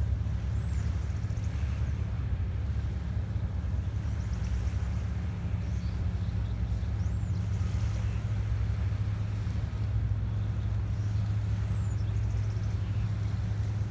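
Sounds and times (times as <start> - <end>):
distant diesel engine drone: 0.0 - 13.9.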